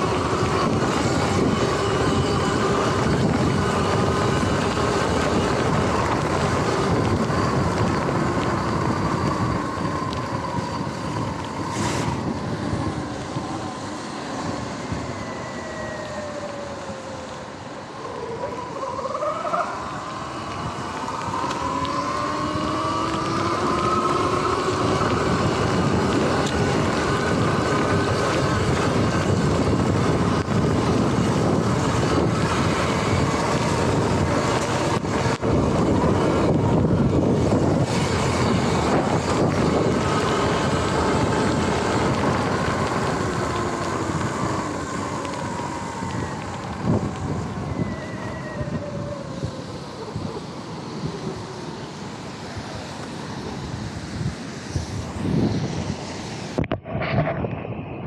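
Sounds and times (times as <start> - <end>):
wind noise on microphone: 0.0 - 16.9, 19.7 - 58.0
tyres rolling through wet grass: 0.0 - 57.2.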